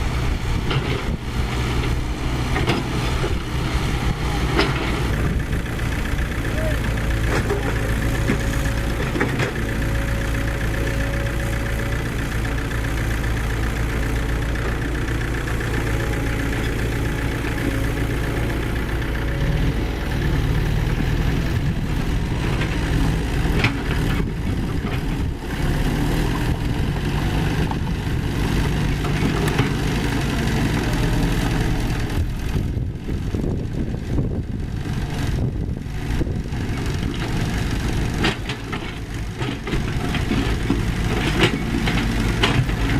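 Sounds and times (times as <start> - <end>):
heavy machinery diesel engines: 0.0 - 42.9.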